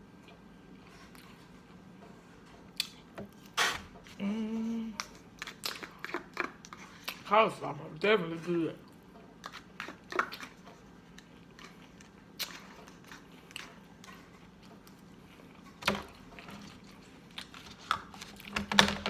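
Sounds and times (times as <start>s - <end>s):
close chewing and mouth sounds: 0.1s - 7.5s, 8.8s - 18.6s.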